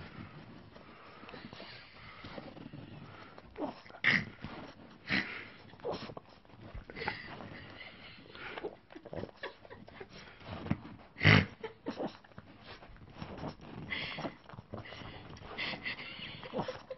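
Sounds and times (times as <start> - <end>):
dog sniffing: 0.0 - 16.9.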